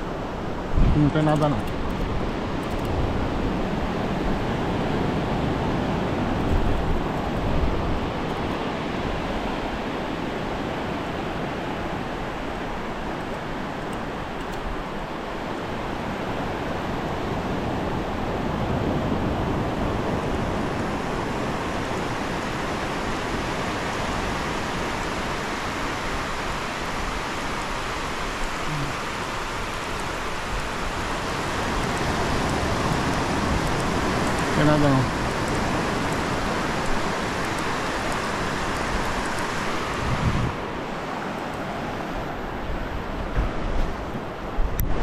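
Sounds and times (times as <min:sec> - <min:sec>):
ocean surf breaking: 0:00.0 - 0:45.0.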